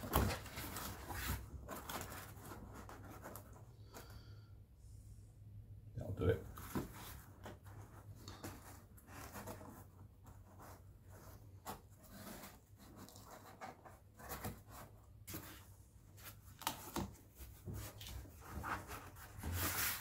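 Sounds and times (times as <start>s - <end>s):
cardboard rustling and rubbing: 0.0s - 3.8s, 6.4s - 20.0s.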